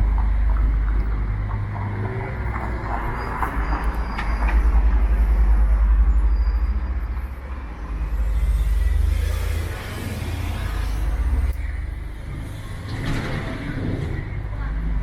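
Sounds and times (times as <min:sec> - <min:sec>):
heavy vehicle rumble: 0:00.0 - 0:15.0
street traffic passing: 0:00.0 - 0:15.0.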